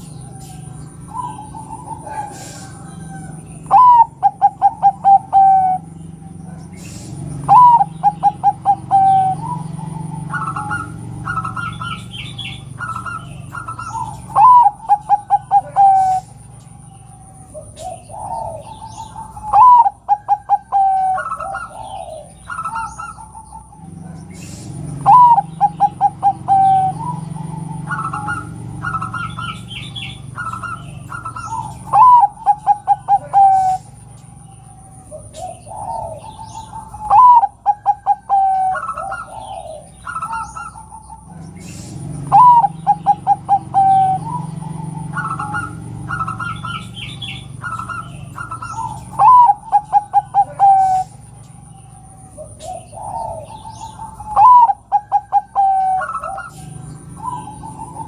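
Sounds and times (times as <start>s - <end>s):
dove cooing: 0.0s - 58.0s
high bird chirps: 0.0s - 58.0s.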